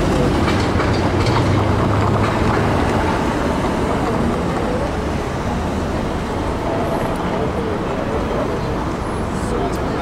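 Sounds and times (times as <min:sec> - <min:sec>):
cars passing close by: 0:00.0 - 0:10.0
steady traffic rumble: 0:00.0 - 0:10.0
streetcar passing: 0:00.0 - 0:10.0.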